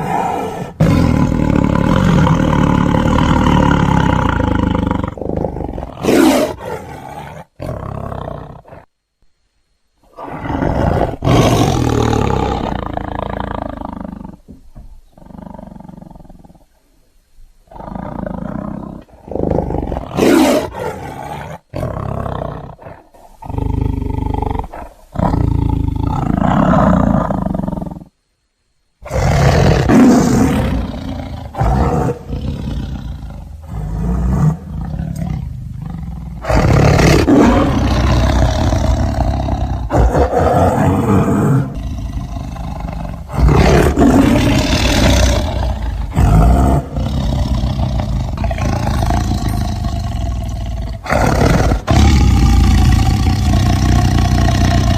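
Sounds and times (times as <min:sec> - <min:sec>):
tiger roaring: 0:00.0 - 0:08.9, 0:10.1 - 0:16.7, 0:17.7 - 0:28.1, 0:29.0 - 0:54.9.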